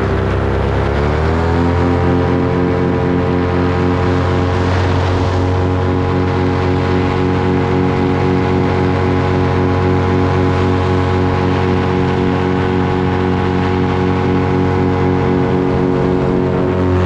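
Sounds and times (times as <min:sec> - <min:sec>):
paramotor engine droning: 0:00.0 - 0:17.0.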